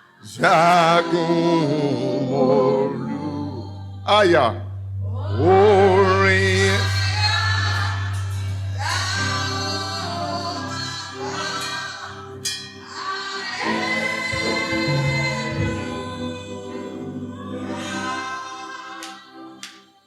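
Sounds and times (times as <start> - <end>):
low sustained accompaniment note: 0.0 - 13.0, 13.6 - 18.3
choir and congregation singing: 0.0 - 20.0.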